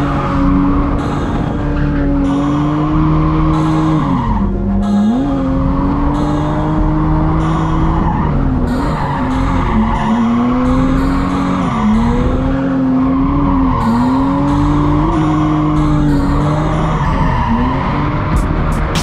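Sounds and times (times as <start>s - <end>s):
car engine revving high: 0.0s - 19.0s
tyres skidding and squealing: 0.0s - 19.0s.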